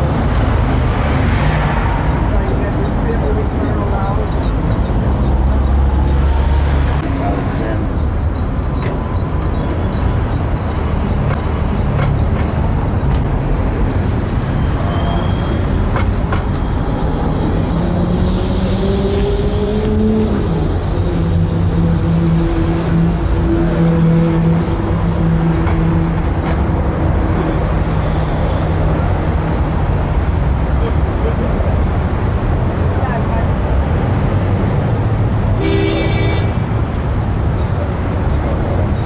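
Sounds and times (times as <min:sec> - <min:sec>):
vehicle engine drone: 0:00.0 - 0:35.6
rumble of passing traffic: 0:00.0 - 0:39.0.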